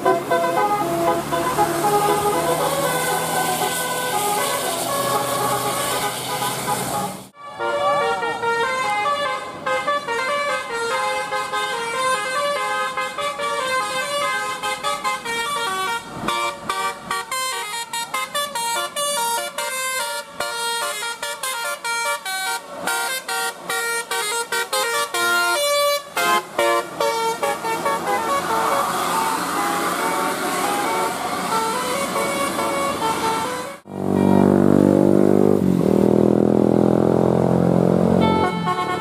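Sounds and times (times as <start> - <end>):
bus horn playing melody: 0.0 - 35.7, 37.8 - 39.0.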